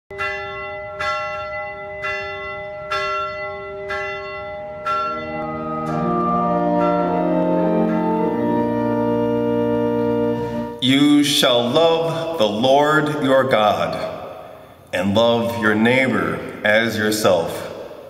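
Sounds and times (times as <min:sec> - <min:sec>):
church bell tolling: 0:00.1 - 0:18.0
organ chords: 0:00.2 - 0:18.0.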